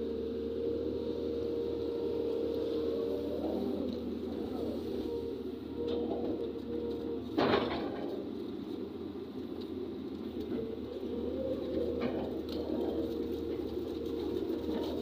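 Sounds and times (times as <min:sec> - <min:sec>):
diesel engine running under load: 0:00.0 - 0:15.0
hydraulic whine: 0:00.0 - 0:15.0.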